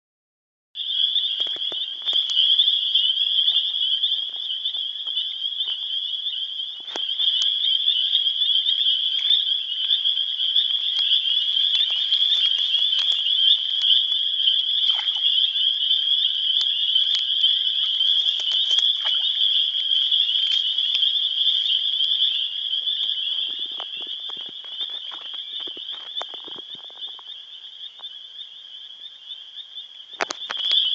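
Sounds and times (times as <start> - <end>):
cicadas droning: 0.8 - 30.9.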